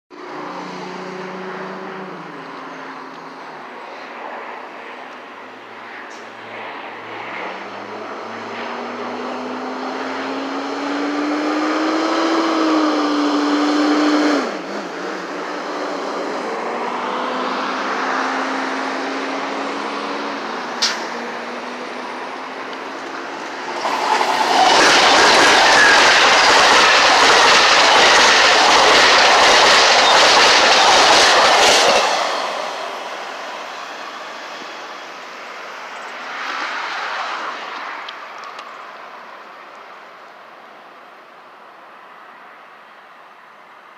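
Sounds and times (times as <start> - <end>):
train passing at speed: 0.2 - 39.5.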